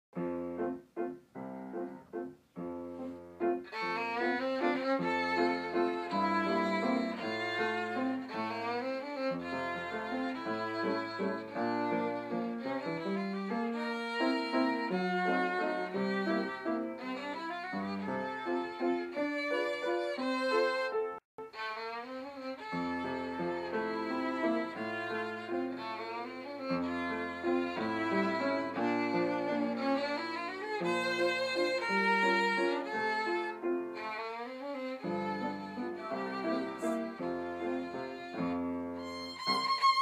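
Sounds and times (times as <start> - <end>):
piano: 0.1 - 40.0
violin: 2.6 - 40.0.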